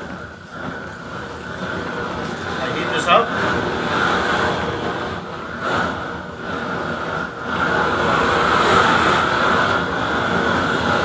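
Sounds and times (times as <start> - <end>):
torch flame rushing: 0.0 - 11.0.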